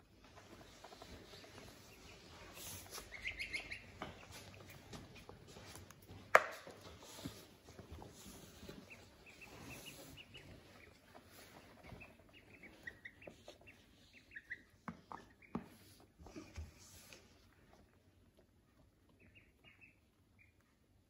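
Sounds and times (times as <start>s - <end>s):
ducklings peeping: 0.2s - 21.0s.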